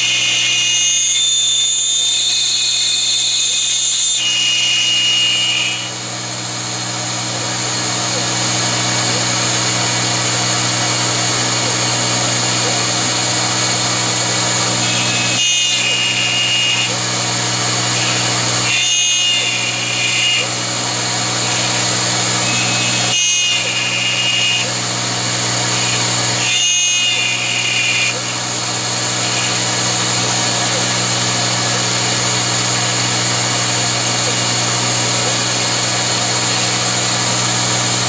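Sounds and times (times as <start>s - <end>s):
high cutter whine: 0.0s - 38.0s
milling machine spindle running: 0.0s - 38.0s.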